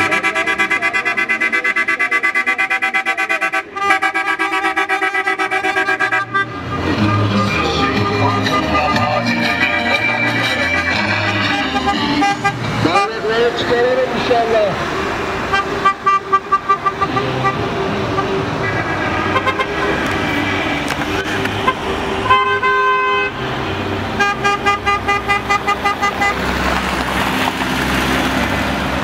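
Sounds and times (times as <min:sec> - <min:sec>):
car horns honking: 0:00.0 - 0:26.7
engine and tyre noise: 0:00.0 - 0:29.0.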